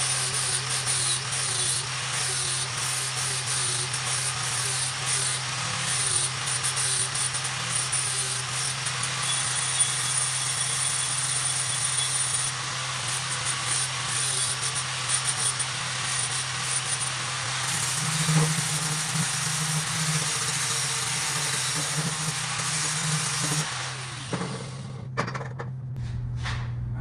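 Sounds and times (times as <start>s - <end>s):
power tool cutting steel tube: 0.0s - 25.0s.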